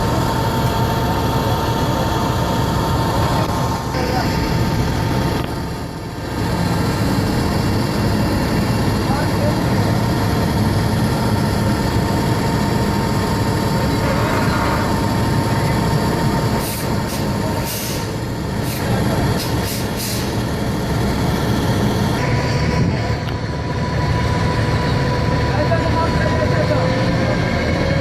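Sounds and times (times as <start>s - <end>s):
diesel engine rumbling: 0.0s - 28.0s
engine whine: 0.0s - 28.0s.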